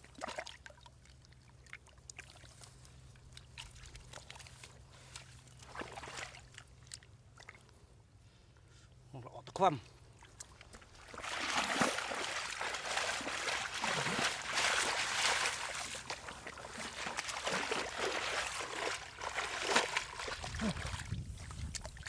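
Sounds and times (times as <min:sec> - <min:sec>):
shallow water splashing: 0:00.0 - 0:07.7, 0:10.1 - 0:22.0.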